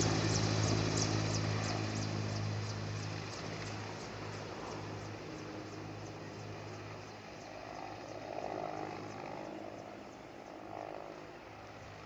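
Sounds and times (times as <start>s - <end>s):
distant helicopter drone: 0.0s - 12.0s.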